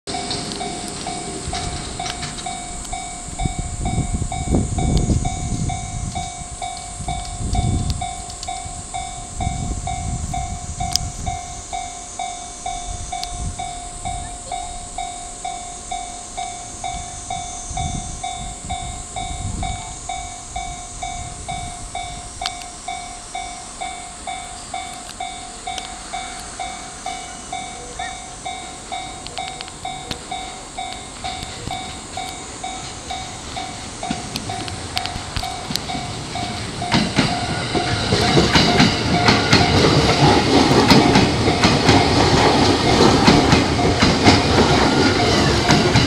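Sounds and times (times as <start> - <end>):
level crossing warning bell: 0.1 - 46.0.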